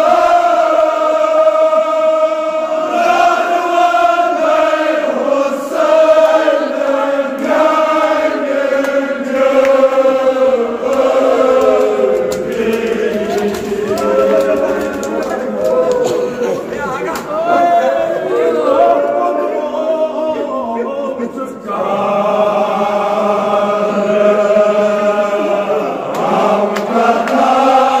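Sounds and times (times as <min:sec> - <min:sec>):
men chanting in unison: 0:00.0 - 0:28.0.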